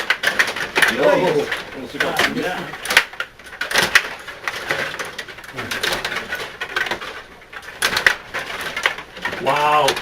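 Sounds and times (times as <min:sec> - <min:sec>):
rods rattling on table: 0:00.0 - 0:10.0.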